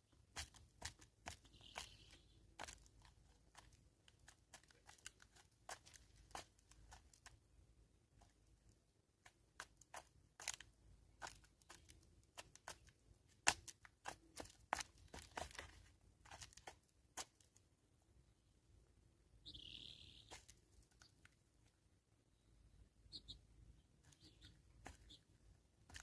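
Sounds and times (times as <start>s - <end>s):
birds pecking at feed: 0.0s - 18.0s, 19.5s - 26.0s.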